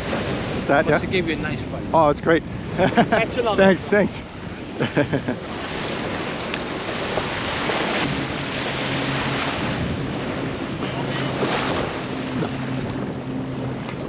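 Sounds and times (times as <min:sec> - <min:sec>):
small surf on beach: 0:00.0 - 0:14.0
wind buffeting microphone: 0:00.0 - 0:14.0.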